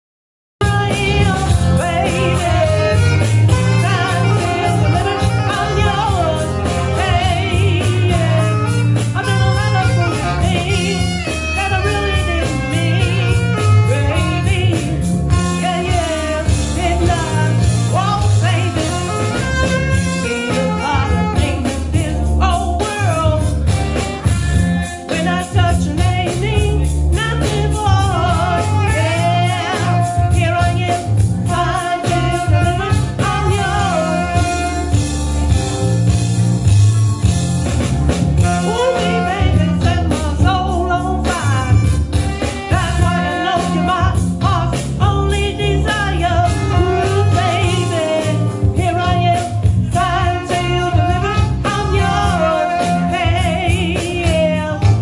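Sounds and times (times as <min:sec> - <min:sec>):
woman singing into a microphone: 0:00.6 - 0:23.6, 0:25.0 - 0:35.0, 0:38.4 - 0:55.0
bass: 0:00.6 - 0:55.0
saxophone: 0:00.6 - 0:55.0
steady drum beat: 0:00.6 - 0:55.0.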